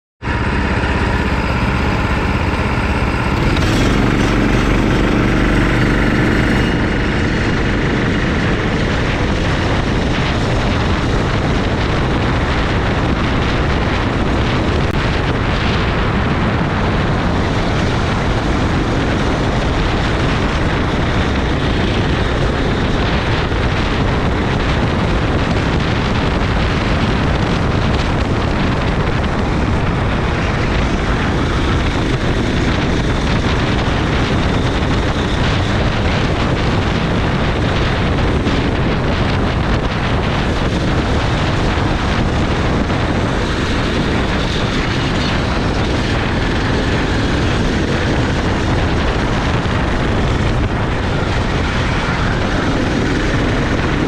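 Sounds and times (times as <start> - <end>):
kart engine running: 0.2 - 54.0
wind rushing on microphone: 0.2 - 54.0.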